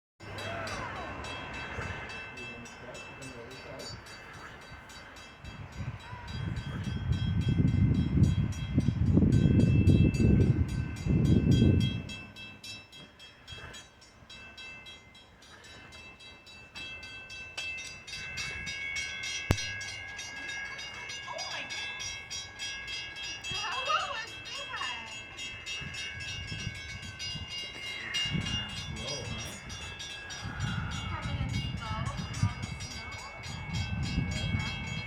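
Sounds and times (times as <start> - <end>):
regular ticking of train cars: 0.2 - 35.0.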